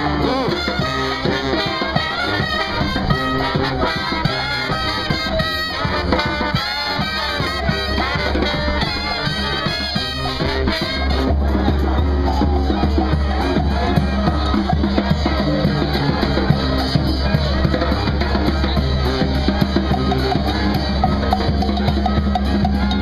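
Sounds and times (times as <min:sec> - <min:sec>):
brass band playing jazz: 0:00.0 - 0:23.0
trombone: 0:00.0 - 0:23.0
trumpet: 0:00.0 - 0:23.0.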